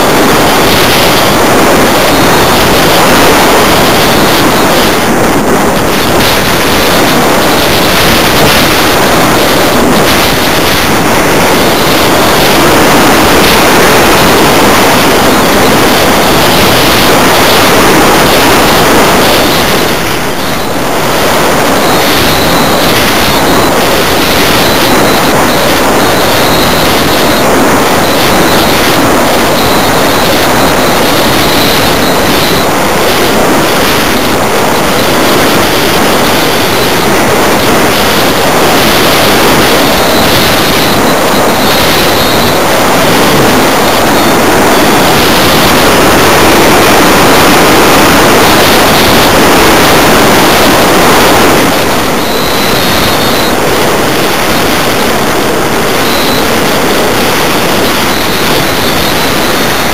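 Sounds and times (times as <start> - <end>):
airflow rushing over microphone: 0.0 - 59.9.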